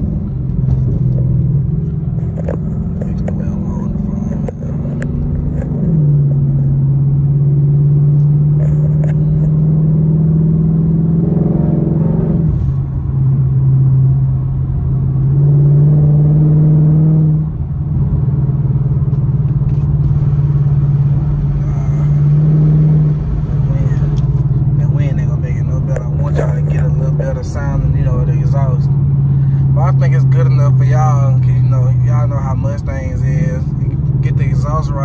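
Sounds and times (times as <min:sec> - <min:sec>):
car exhaust inside cabin: 0:00.0 - 0:35.0.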